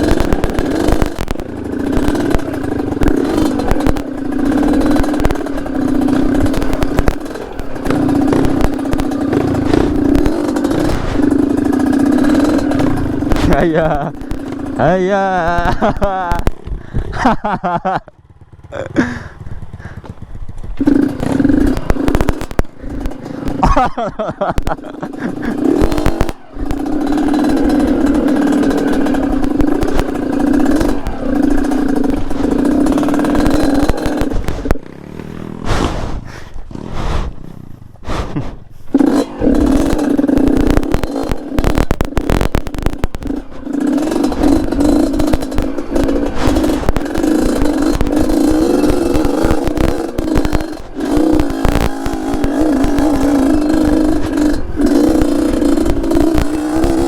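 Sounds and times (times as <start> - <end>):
two-stroke motorbike engine: 0.0 - 57.0.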